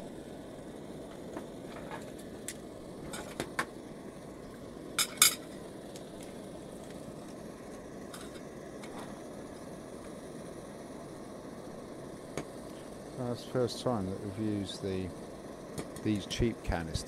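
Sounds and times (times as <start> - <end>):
gas stove burner hissing: 0.0 - 17.0.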